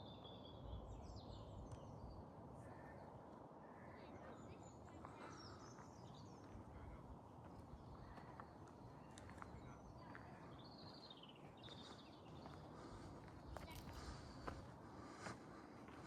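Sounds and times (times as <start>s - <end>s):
distant birds chirping: 0.0s - 15.7s.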